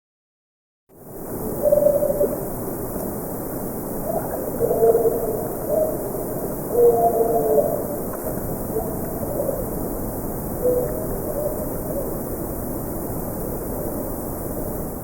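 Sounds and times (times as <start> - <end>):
steady hiss: 0.9 - 15.0.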